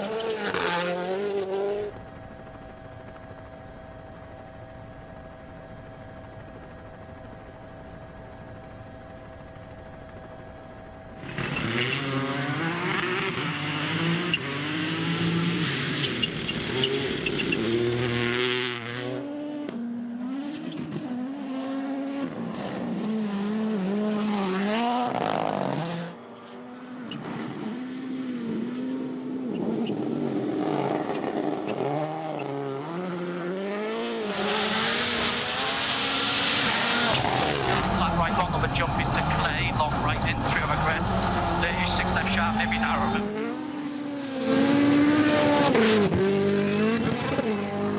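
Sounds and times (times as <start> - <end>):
rally car engines revving: 0.0 - 2.0, 11.2 - 47.9.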